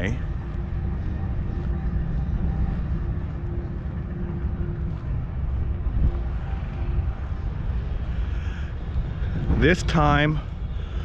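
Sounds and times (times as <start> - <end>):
faint distant engine hum: 0.0 - 11.0
wind buffeting microphone: 0.0 - 11.0.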